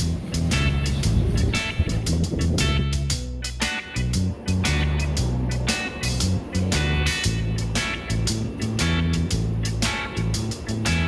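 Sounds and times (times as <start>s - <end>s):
upbeat music with guitar and drums: 0.0s - 11.0s.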